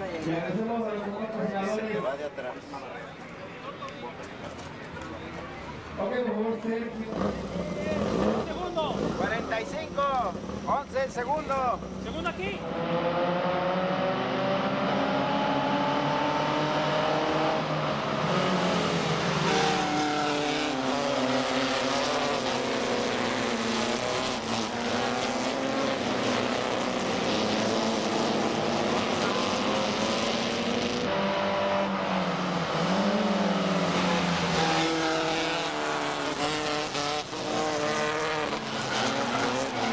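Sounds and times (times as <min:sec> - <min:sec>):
race car engines at full throttle: 0:00.0 - 0:39.9.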